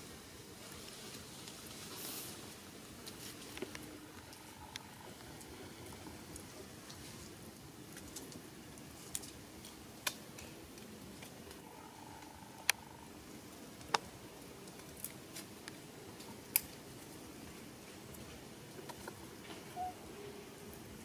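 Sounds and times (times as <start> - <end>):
low steady background noise: 0.0 - 21.0.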